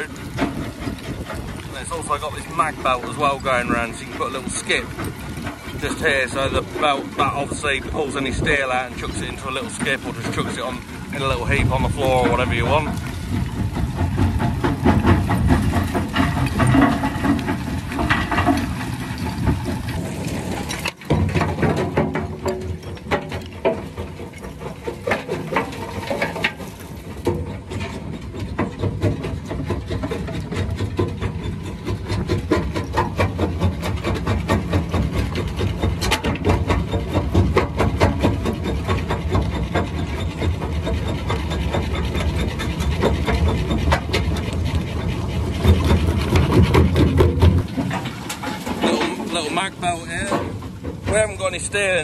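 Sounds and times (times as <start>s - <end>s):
jaw crusher rumbling: 0.0s - 52.0s.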